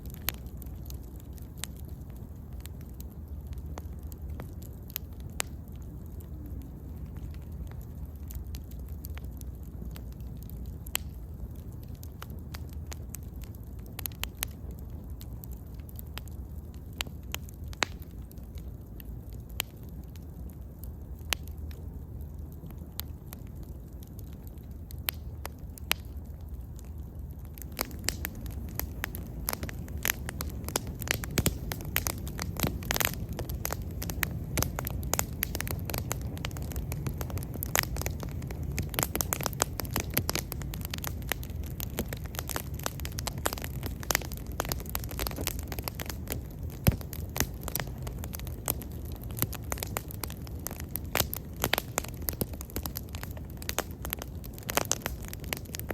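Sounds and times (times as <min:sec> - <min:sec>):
bonfire rumble: 0:00.0 - 0:55.9
fire crackles and pops: 0:00.0 - 0:55.9.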